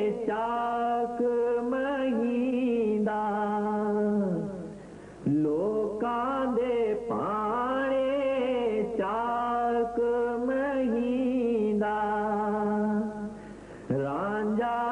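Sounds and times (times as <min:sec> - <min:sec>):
person singing devotional song: 0:00.0 - 0:14.9.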